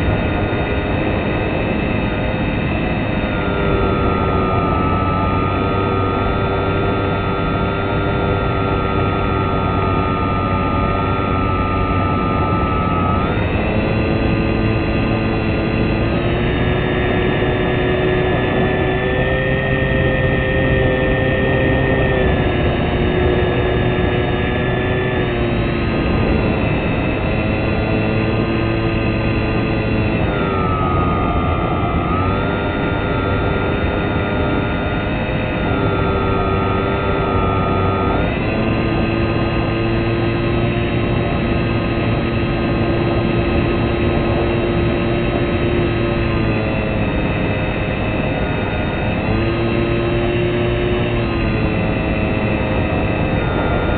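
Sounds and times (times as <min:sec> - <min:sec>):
model aircraft motor whine: 0:00.0 - 0:53.9.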